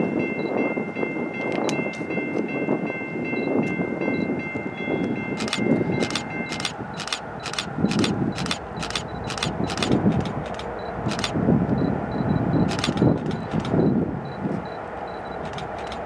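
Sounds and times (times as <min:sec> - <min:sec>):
railroad crossing bell ringing: 0:00.0 - 0:10.0, 0:10.8 - 0:16.0
wind rumbling on microphone: 0:00.0 - 0:16.0.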